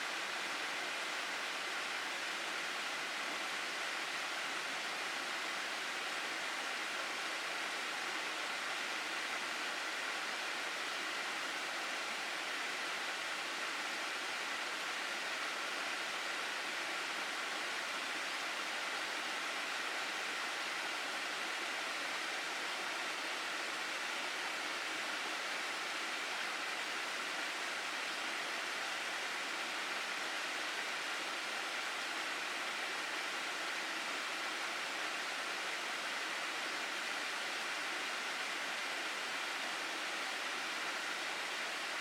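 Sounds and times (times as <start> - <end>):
water rushing in a stream: 0.0 - 42.0.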